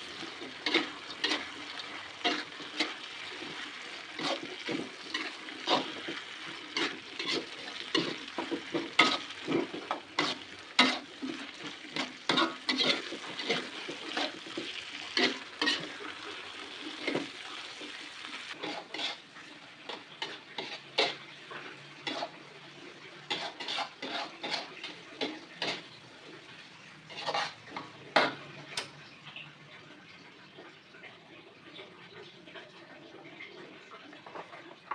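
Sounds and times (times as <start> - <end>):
spatula scraping a pan: 0.0 - 28.8
food sizzling in a frying pan: 0.0 - 34.9.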